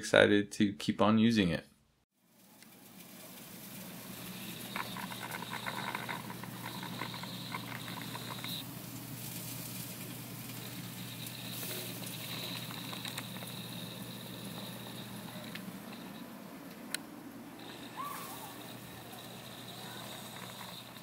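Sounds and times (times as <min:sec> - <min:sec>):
meat crackling in a grill: 0:02.2 - 0:16.9, 0:17.6 - 0:21.0
steady hum and hiss: 0:02.3 - 0:21.0.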